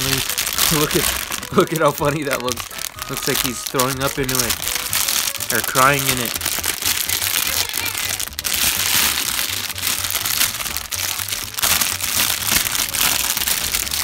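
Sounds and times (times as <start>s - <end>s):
background music beat: 0.0s - 14.0s
plastic bag crinkling: 0.0s - 14.0s.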